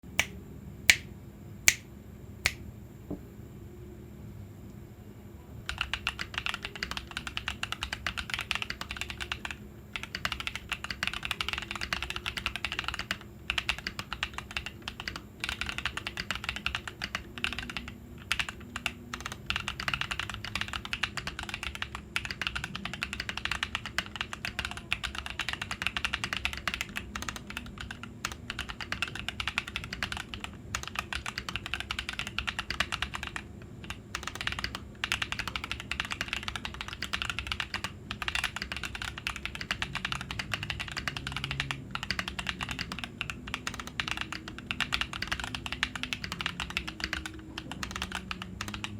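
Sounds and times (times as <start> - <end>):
mechanical keyboard typing: 5.7 - 48.9.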